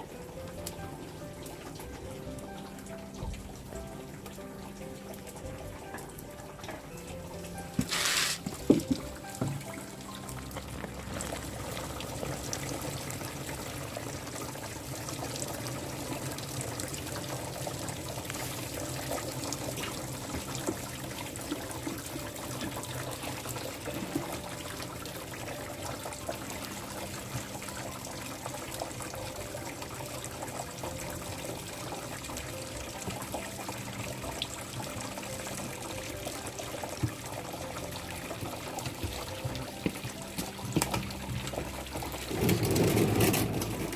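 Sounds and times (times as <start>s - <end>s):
liquid trickling: 0.0s - 43.9s.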